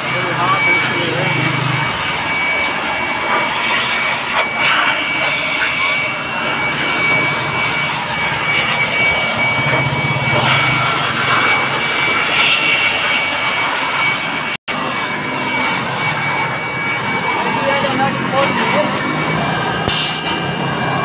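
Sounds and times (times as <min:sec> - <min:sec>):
electric dust blower whining: 0:00.0 - 0:21.0.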